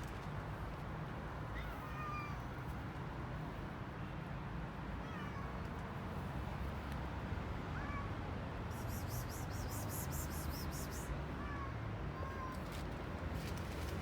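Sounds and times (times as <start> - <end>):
low street noise: 0.0 - 14.0.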